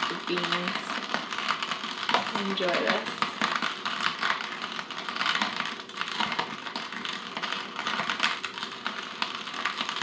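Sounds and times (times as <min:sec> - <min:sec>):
hand grinder crunching coffee beans: 0:00.0 - 0:10.0.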